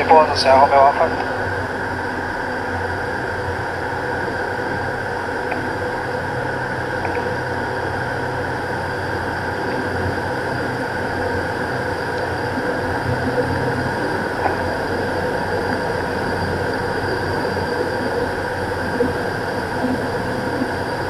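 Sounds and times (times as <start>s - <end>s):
turboprop engines droning: 0.0s - 21.0s.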